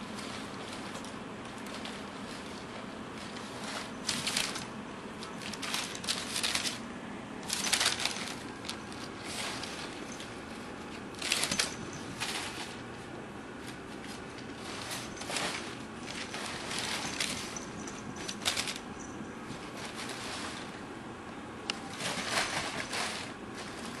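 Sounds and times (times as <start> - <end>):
packing paper crinkling and rustling: 0.0 - 12.9, 13.6 - 20.8.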